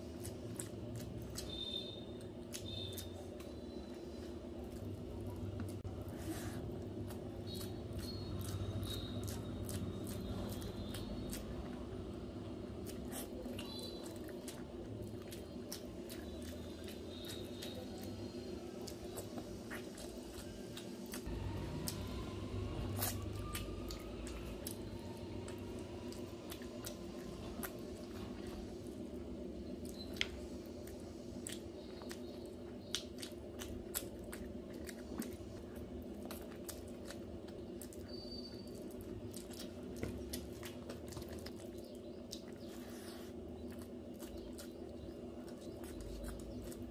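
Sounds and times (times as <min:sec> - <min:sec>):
chewing and wet mouth clicks: 0:00.0 - 0:04.0, 0:06.7 - 0:46.9
steady low hum: 0:00.0 - 0:46.9.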